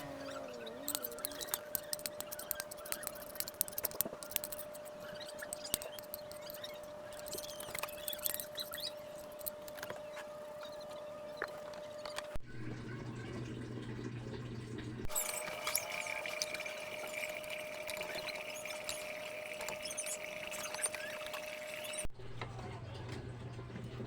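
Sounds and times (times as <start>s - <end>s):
kitchen utensils clicking and scraping: 0.0s - 12.4s, 15.1s - 22.1s.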